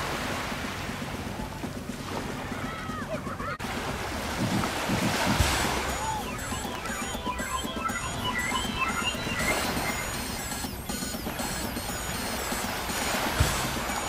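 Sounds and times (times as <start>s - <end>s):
water lapping and sloshing: 0.0s - 14.0s.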